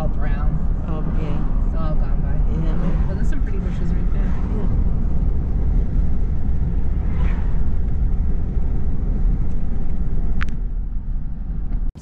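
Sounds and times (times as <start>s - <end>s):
road and engine rumble inside car: 0.0s - 12.0s.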